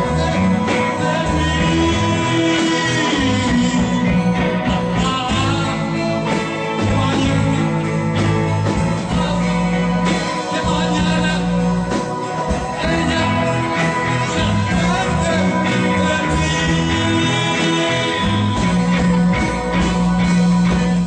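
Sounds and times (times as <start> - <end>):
live pop-rock band playing: 0.0 - 21.0.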